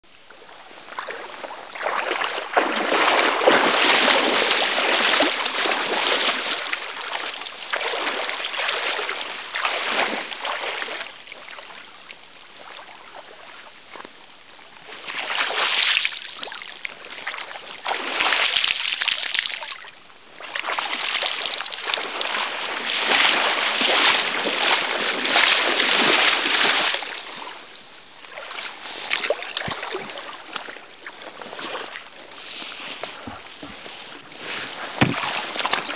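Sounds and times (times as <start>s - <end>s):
water splashing and sloshing: 0.3s - 35.9s.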